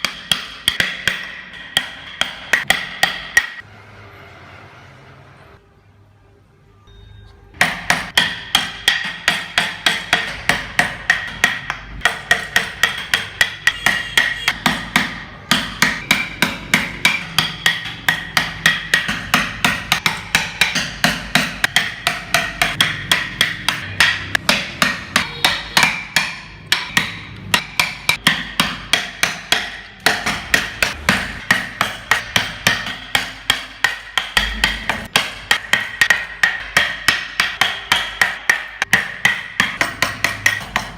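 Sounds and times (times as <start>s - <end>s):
mallet striking chisel into wood: 0.0s - 3.6s, 7.6s - 40.9s.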